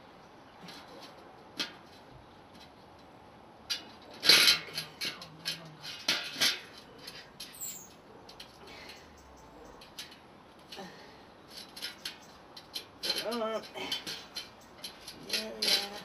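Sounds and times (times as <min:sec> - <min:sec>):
bicycle spokes clicking and rattling: 0:01.6 - 0:16.0.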